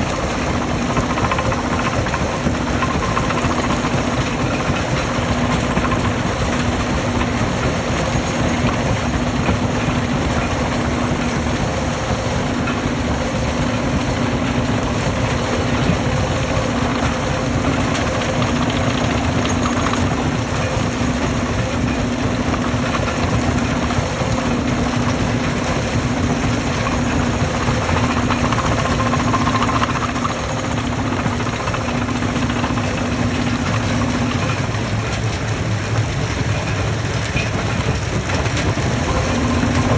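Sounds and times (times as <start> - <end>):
stone crushing machine rumbling: 0.0 - 39.9.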